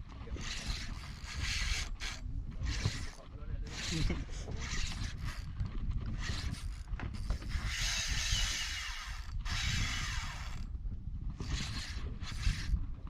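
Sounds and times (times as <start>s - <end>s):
fishing reel whirring: 0.2s - 13.0s.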